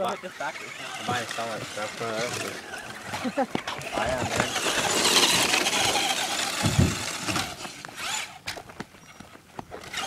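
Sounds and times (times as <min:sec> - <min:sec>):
radio-controlled car motor: 0:00.0 - 0:08.6, 0:09.8 - 0:10.0.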